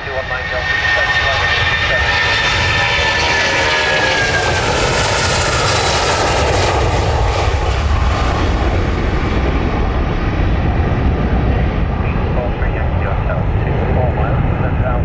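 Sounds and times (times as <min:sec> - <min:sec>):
jet airliner engines passing: 0:00.0 - 0:15.0.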